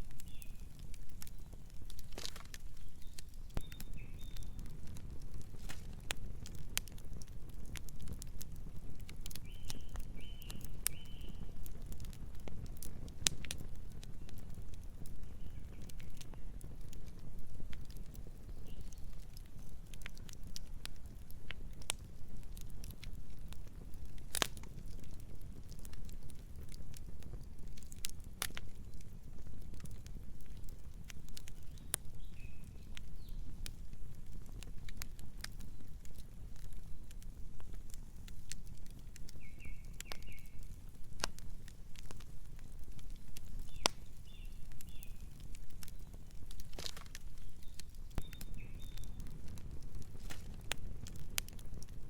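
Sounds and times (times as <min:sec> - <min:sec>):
campfire low rumble: 0:00.0 - 0:52.0
wood crackling and popping: 0:00.0 - 0:52.0.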